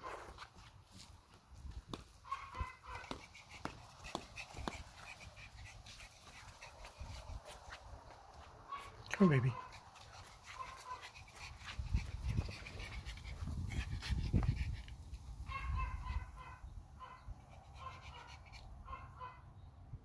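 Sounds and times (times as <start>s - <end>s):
small dog panting: 2.3s - 16.4s, 17.1s - 19.1s.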